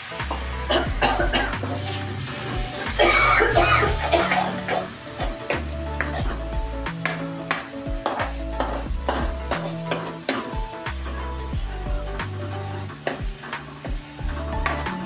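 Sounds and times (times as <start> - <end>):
background music: 0.0 - 15.0
food sizzling in oil: 0.0 - 15.0.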